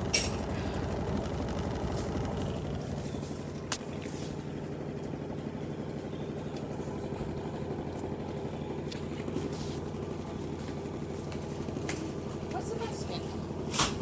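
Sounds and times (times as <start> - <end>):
washing machine rumbling: 0.0 - 14.0.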